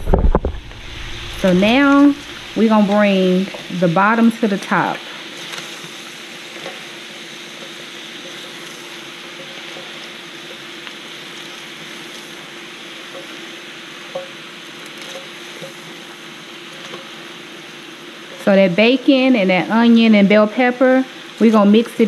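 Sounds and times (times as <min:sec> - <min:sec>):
cabbage sizzling in a pan: 0:00.0 - 0:22.0.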